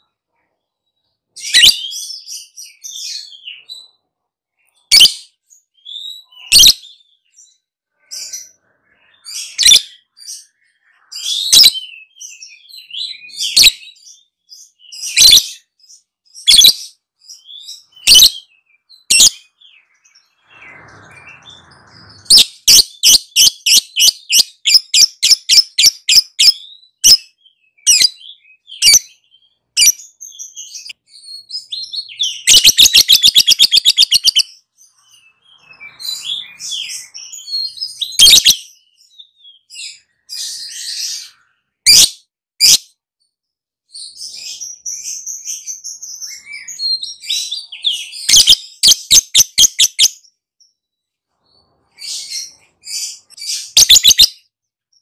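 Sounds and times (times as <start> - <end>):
lovebird chirping: 1.4 - 4.0, 4.7 - 42.9, 44.1 - 50.8, 51.5 - 55.0.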